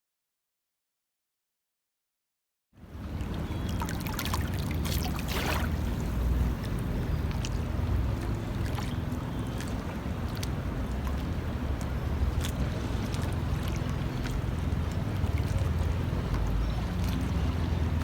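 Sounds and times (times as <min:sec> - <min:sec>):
sea water lapping and splashing: 0:02.8 - 0:18.0
short sharp splashes: 0:03.2 - 0:18.0.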